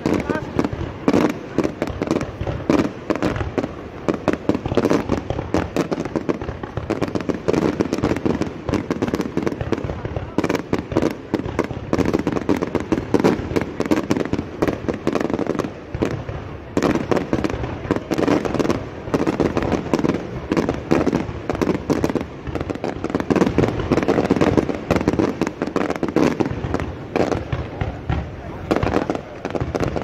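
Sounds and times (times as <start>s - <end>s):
fireworks cracking and popping: 0.0s - 30.0s.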